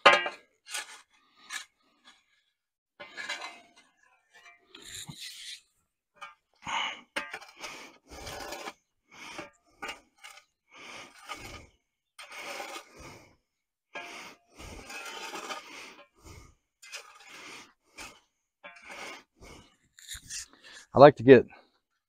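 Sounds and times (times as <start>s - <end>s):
shovel scraping dry concrete mix: 0.0s - 2.3s, 3.0s - 6.3s, 7.1s - 13.3s, 14.0s - 20.5s.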